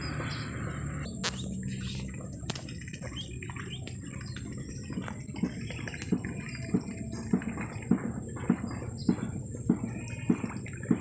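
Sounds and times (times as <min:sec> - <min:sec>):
faint bird chirps: 0:00.0 - 0:10.9
low steady rumble: 0:00.0 - 0:11.0.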